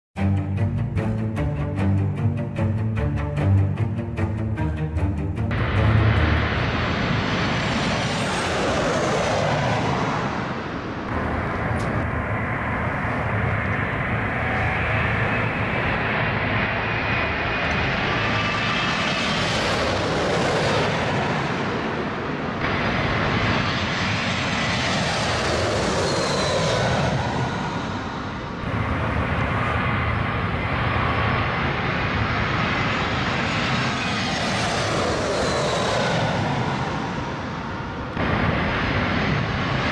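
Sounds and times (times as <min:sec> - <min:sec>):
jet airliner roar passing overhead: 0:00.2 - 0:39.9.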